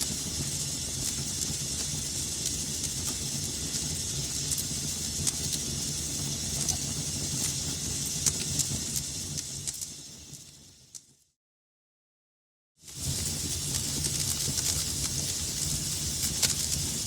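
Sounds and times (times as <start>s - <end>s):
fire hissing: 0.0s - 10.8s, 12.8s - 17.0s
wood crackles and pops: 0.0s - 11.0s, 13.0s - 17.0s.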